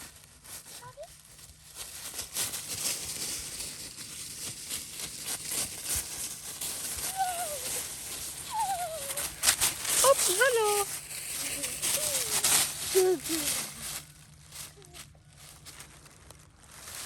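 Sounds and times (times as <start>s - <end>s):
rustling through dry grass: 0.0s - 17.0s.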